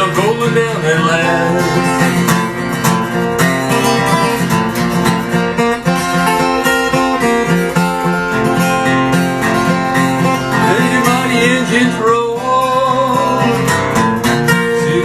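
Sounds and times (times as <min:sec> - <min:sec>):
acoustic guitar playing chords: 0:00.0 - 0:15.0.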